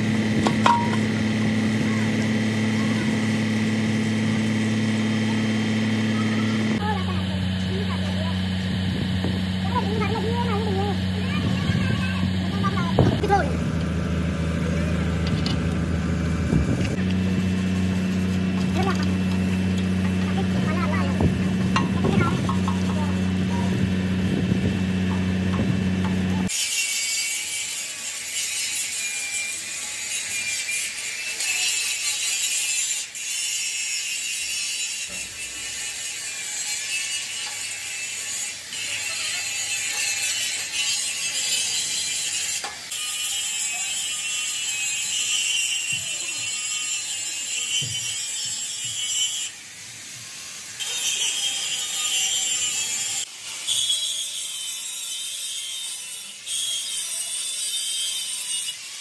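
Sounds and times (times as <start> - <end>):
angle grinder scouring metal: 0.0 - 59.0.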